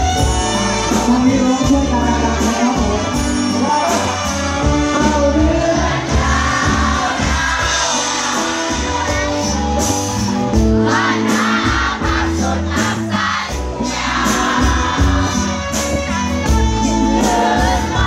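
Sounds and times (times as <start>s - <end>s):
band music with bass and cymbal: 0.0s - 18.0s.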